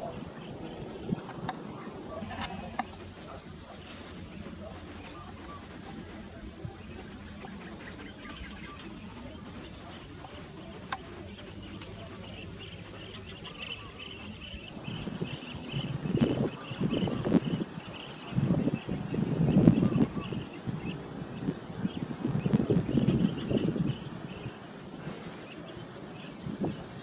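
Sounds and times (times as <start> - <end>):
insects buzzing and chirping: 0.0 - 27.0.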